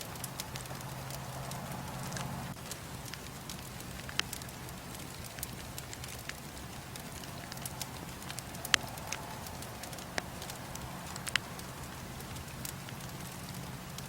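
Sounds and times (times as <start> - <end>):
bonfire crackling and popping: 0.0 - 14.0.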